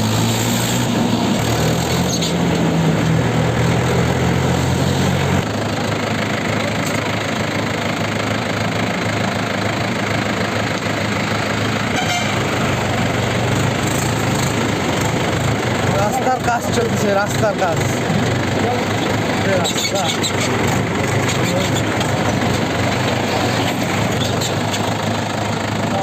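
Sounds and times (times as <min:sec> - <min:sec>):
diesel tractor engine hum: 0:00.0 - 0:26.0
road and wind noise: 0:00.0 - 0:26.0.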